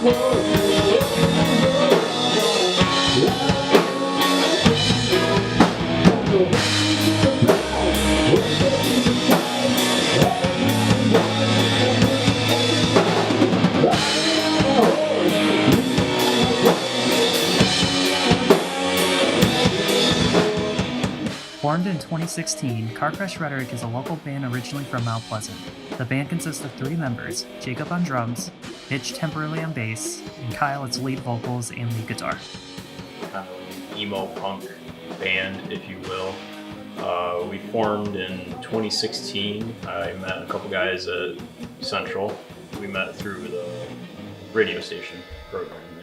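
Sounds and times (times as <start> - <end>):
loud rock music: 0.0 - 46.0.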